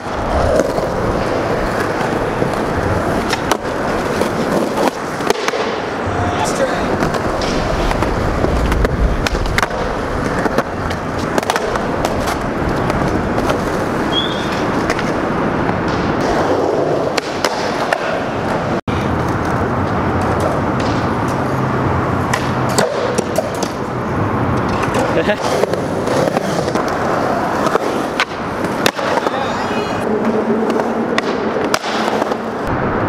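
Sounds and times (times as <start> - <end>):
skateboard clacking on ground: 0.0 - 32.7
skateboard wheels rolling on concrete: 0.0 - 33.0.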